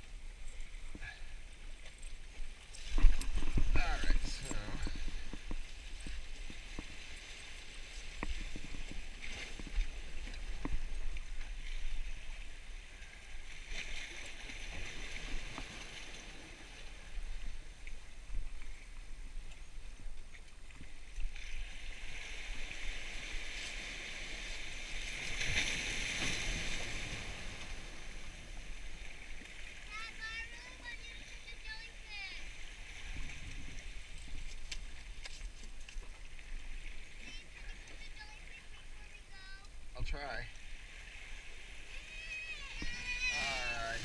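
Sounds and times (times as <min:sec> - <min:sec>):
surf washing against rocks: 0:02.7 - 0:18.4, 0:21.0 - 0:44.0.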